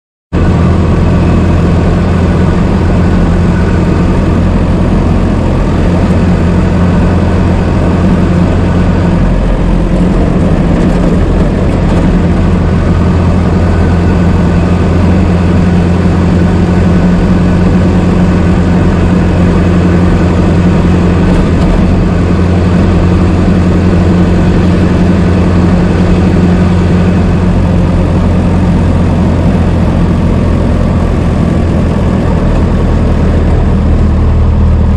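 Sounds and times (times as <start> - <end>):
car engine running: 0.3 - 34.9.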